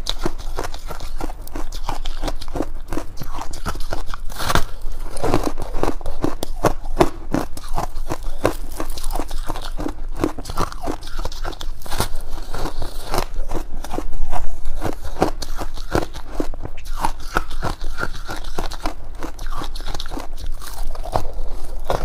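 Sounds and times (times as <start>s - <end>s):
crunching ice: 0.0s - 22.0s.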